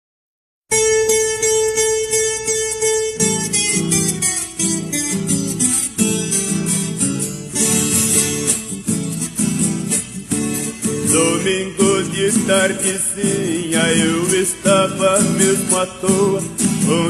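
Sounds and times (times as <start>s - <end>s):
plucked string instrument: 0.7s - 17.0s.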